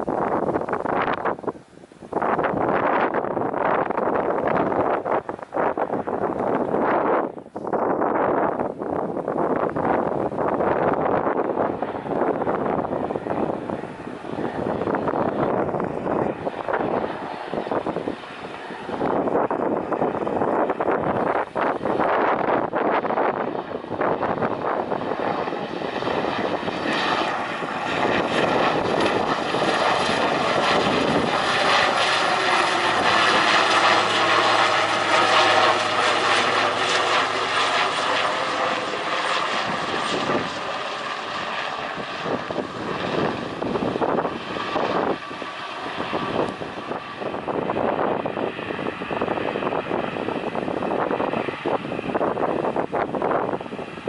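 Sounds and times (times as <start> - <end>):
airliner engines passing: 0.0 - 54.0.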